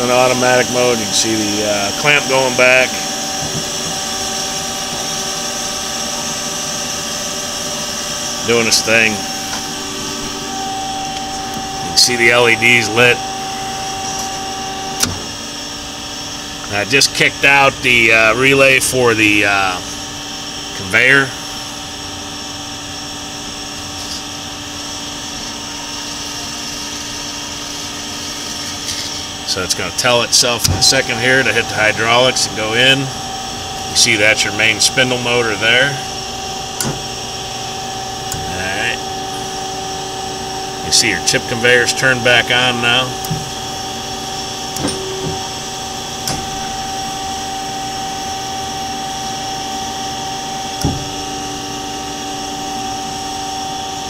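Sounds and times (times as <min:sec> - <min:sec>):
bandsaw machine hum: 0:00.0 - 0:54.0.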